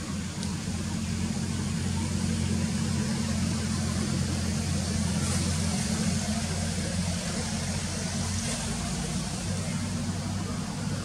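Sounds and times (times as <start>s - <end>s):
low engine hum with hiss: 0.0s - 11.0s.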